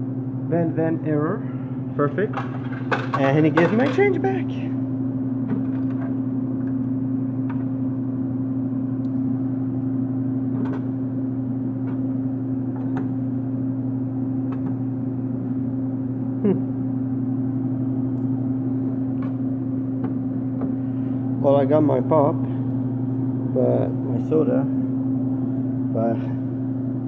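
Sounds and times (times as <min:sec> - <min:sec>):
vending machine humming: 0:00.0 - 0:27.0.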